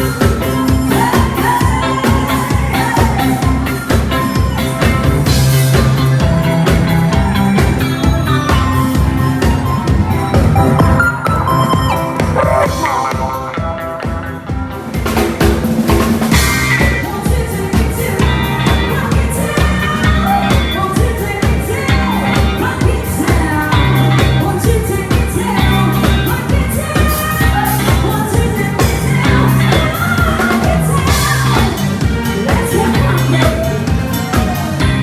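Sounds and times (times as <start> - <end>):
drum kit beating: 0.0 - 35.0
live pop band playing: 0.0 - 35.0
wavering lead melody: 0.0 - 35.0.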